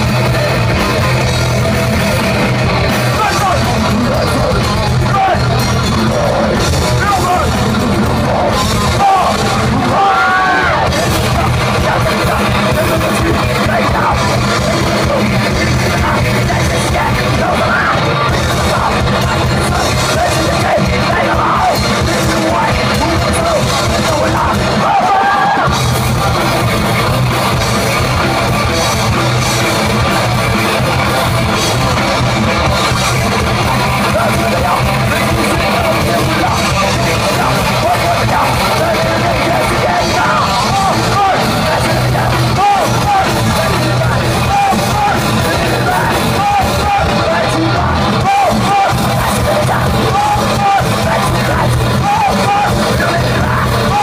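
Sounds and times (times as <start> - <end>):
distorted electric guitars: 0.0 - 54.0
drum kit: 0.0 - 54.0
shouted vocals: 0.0 - 54.0.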